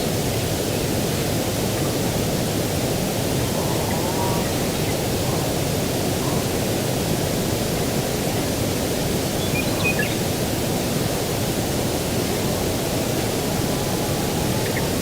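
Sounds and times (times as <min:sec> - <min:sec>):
rushing breeze: 0:00.0 - 0:15.0.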